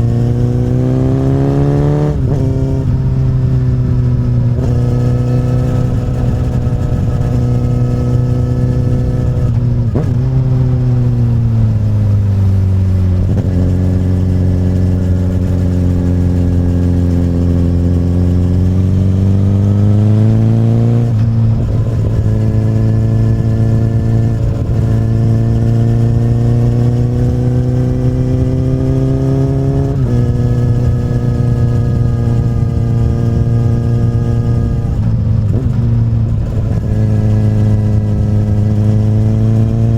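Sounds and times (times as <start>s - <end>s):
motorcycle engine at road speed: 0.0s - 39.9s.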